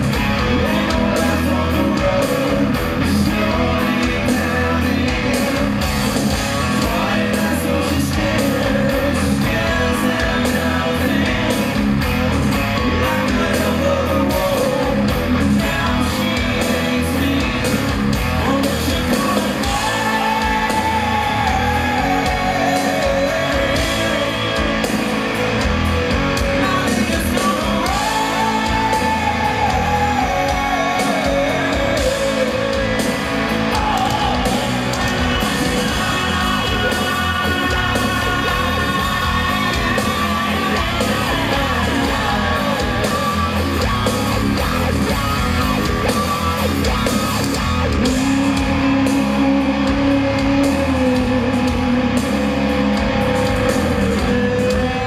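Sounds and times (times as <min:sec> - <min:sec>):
live rock band playing: 0:00.0 - 0:55.0
person singing lead vocals: 0:00.0 - 0:55.0.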